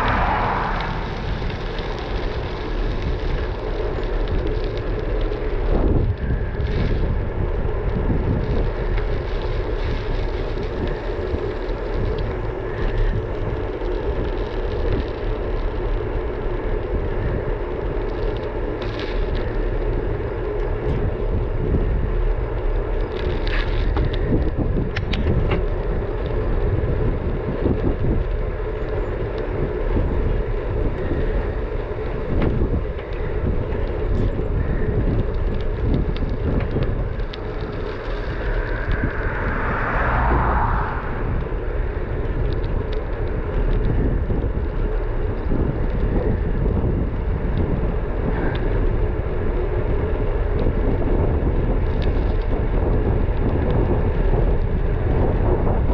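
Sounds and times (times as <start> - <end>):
road noise rumble: 0.0 - 55.9
wind buffeting microphone: 0.0 - 55.9.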